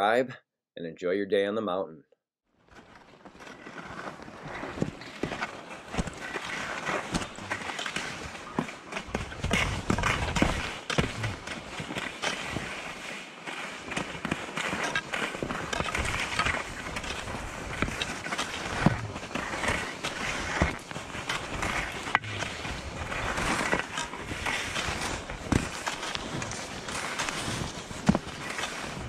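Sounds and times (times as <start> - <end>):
skis scraping over snow: 2.7 - 29.0.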